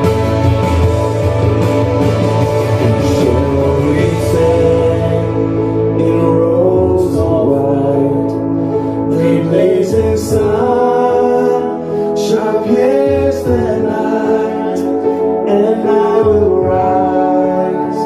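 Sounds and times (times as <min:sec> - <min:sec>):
gospel worship song: 0:00.0 - 0:18.0.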